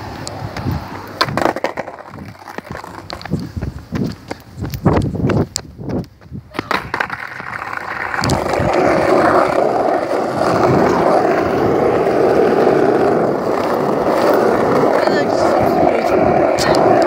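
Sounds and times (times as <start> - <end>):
wheels rolling over asphalt: 0.0 - 17.0.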